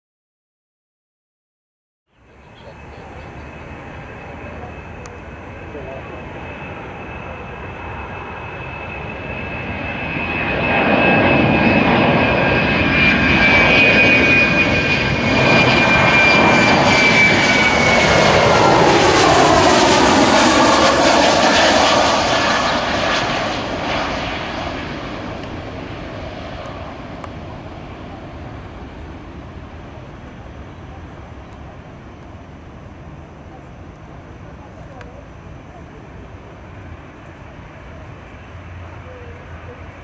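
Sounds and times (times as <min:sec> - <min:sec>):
jet passing by with whine: 0:02.1 - 0:40.0.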